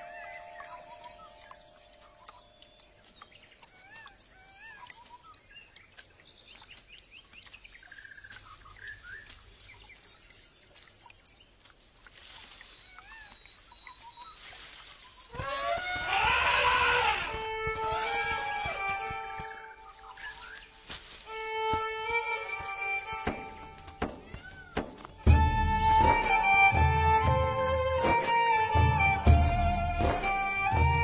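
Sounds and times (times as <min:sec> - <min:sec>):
birds chirping: 0:00.0 - 0:31.0
faint forest ambience: 0:00.0 - 0:31.0.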